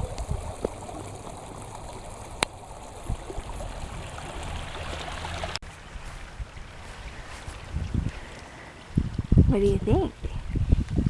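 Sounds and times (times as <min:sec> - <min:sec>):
stream water rushing: 0:00.0 - 0:09.7.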